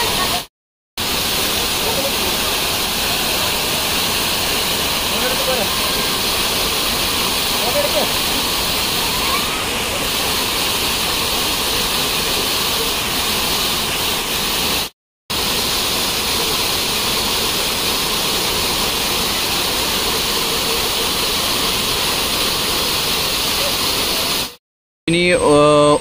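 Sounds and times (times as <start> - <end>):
waterfall rushing and splashing: 0.0 - 24.6.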